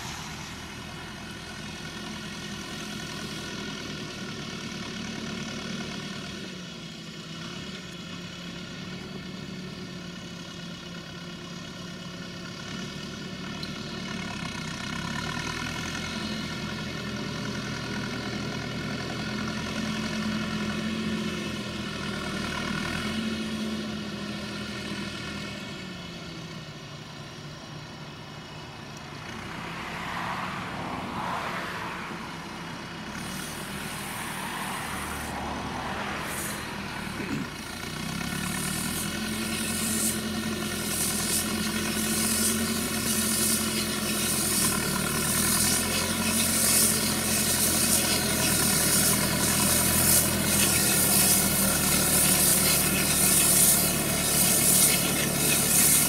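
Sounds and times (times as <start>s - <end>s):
rough mechanical noise: 0.0s - 56.0s
tractor diesel engine under load: 0.0s - 56.0s.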